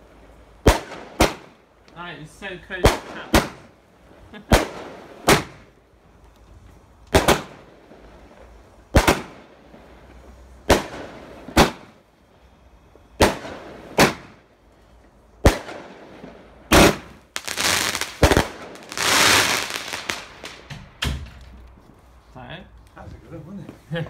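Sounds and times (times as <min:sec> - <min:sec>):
firework bangs and crackle: 0:00.0 - 0:21.4.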